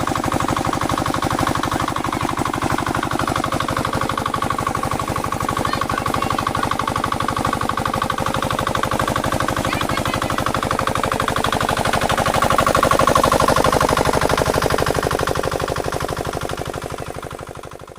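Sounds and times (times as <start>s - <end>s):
diesel water pump engine running: 0.0s - 17.9s.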